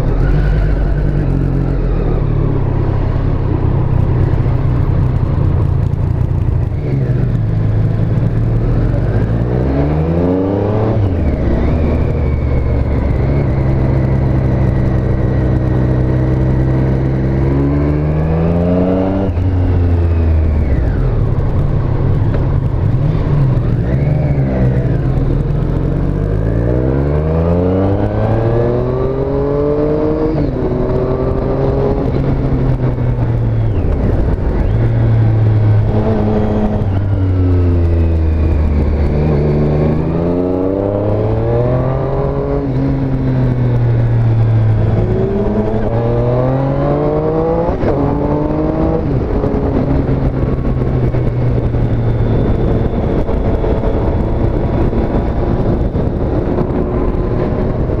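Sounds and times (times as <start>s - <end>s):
motorcycle engine accelerating: 0.0s - 58.0s
road and wind noise: 0.0s - 58.0s.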